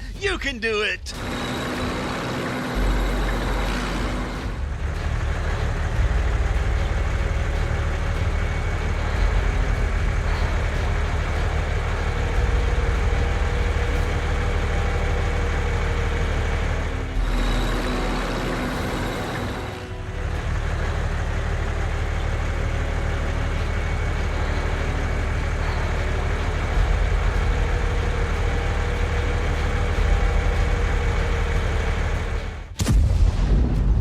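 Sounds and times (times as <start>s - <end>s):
truck engines rumbling: 0.0s - 32.7s.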